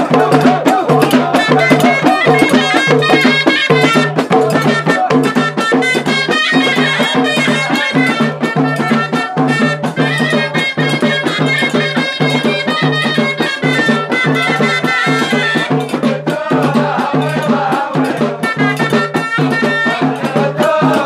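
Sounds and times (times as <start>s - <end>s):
drums beaten in fast rhythm: 0.0s - 21.0s
reed shawm melody: 0.0s - 21.0s.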